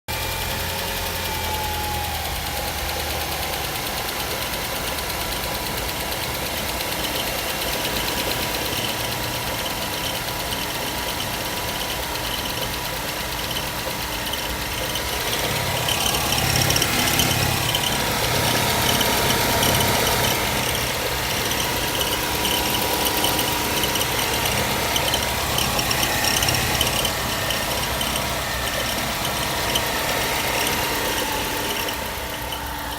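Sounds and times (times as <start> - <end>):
car engine idling: 0.1 - 32.9
rapid rhythmic ticking: 2.1 - 32.9.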